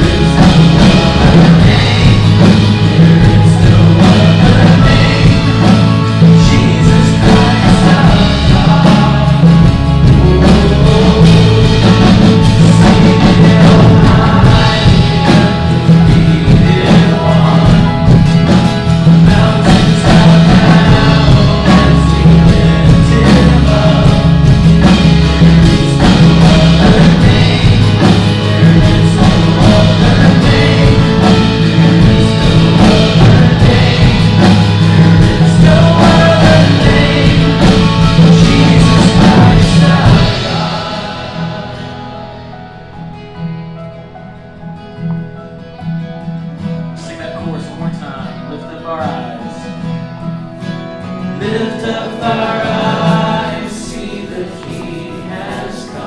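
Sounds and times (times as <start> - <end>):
person singing: 0.0 - 42.8, 51.2 - 56.0
live band playing: 0.0 - 56.0.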